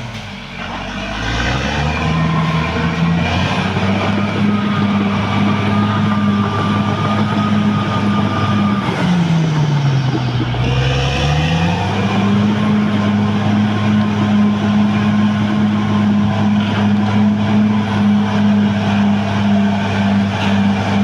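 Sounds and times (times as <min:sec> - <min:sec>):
bulldozer diesel engine running: 0:00.0 - 0:21.0
thin whine: 0:01.6 - 0:21.0.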